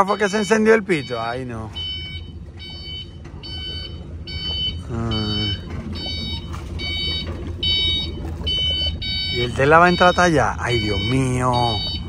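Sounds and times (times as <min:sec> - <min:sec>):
high-pitched warning beeps: 0:00.0 - 0:12.0.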